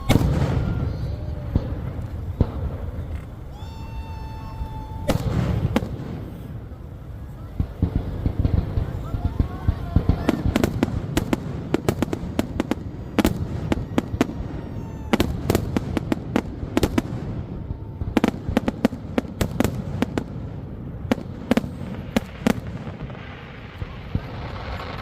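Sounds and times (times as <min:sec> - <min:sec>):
fireworks bangs and cracks: 0:00.0 - 0:25.0.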